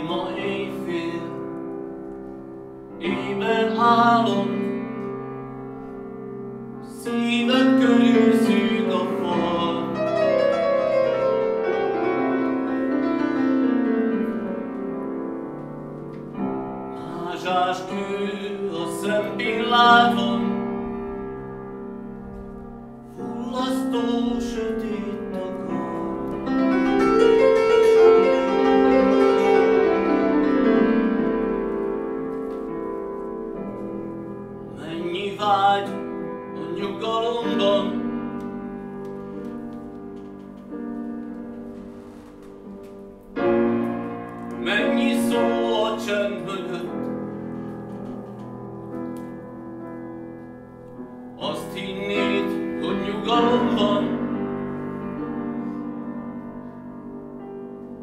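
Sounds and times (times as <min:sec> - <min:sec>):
slow solo piano music: 0:00.0 - 0:58.0.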